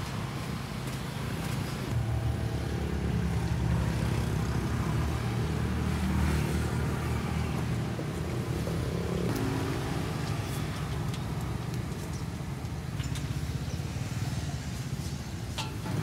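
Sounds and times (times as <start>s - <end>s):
street traffic engines rumbling: 0.0s - 16.0s.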